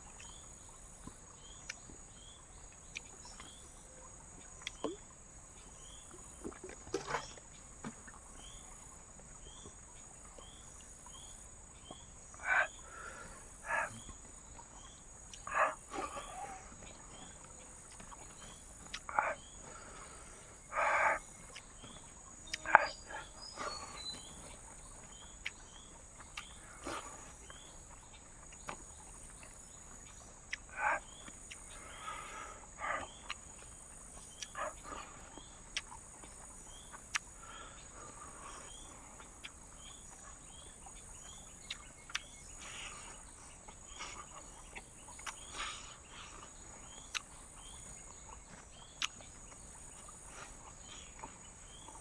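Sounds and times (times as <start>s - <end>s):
faint cricket chirp: 0.0s - 52.0s
night insects droning: 0.0s - 52.0s.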